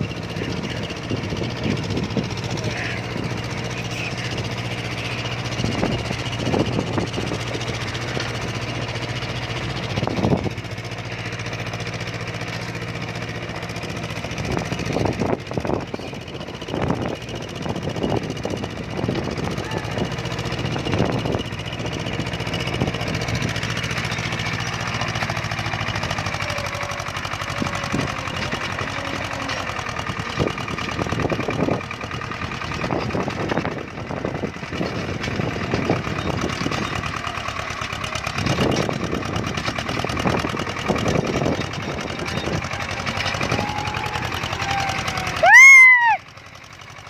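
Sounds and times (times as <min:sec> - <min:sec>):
clanks and rattles: 0:00.0 - 0:45.5
tractor engine running: 0:00.0 - 0:47.0.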